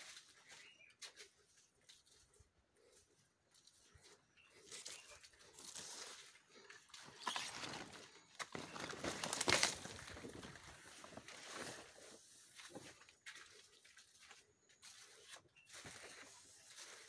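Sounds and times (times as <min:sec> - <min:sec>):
leaves rustling against phone: 0:00.0 - 0:17.0.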